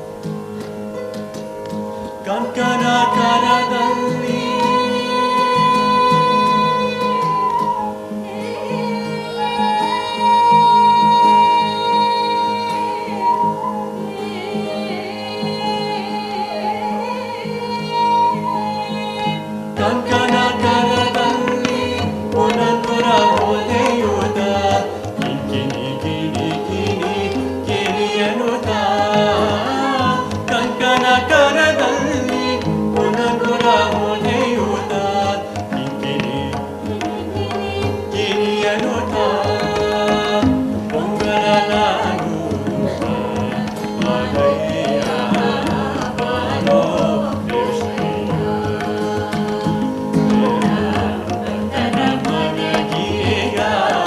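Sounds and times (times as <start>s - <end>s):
flute: 0.0s - 54.0s
guitar: 0.0s - 54.0s
tabla: 0.0s - 54.0s.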